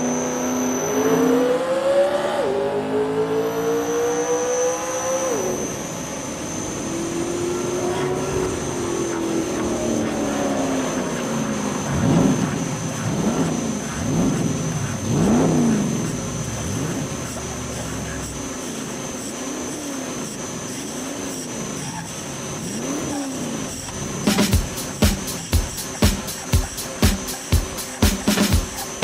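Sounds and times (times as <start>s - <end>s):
metal lathe cutting steel: 0.0s - 29.0s
steady high whine: 0.0s - 29.0s.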